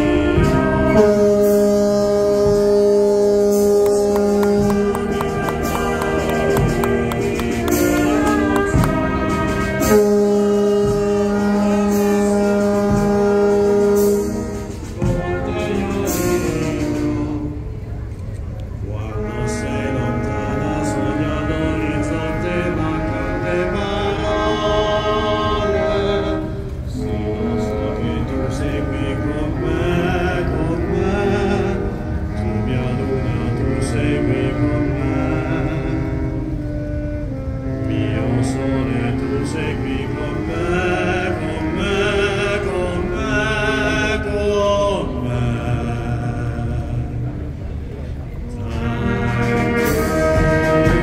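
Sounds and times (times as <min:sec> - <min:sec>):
brass band holding chords: 0:00.0 - 0:51.0.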